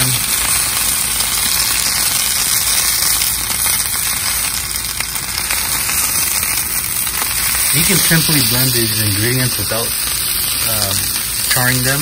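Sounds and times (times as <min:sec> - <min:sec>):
vegetables sizzling on griddle: 0:00.0 - 0:12.0.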